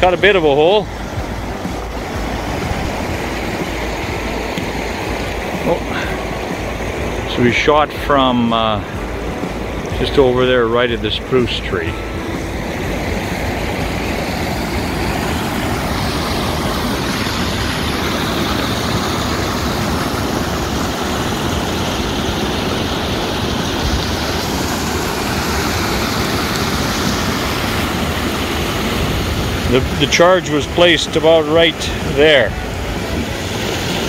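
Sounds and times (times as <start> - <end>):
water rushing out: 0.0 - 34.0.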